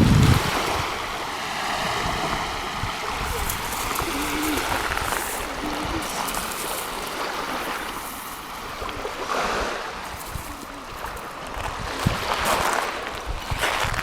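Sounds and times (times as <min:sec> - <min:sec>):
sea waves washing: 0:00.0 - 0:14.0.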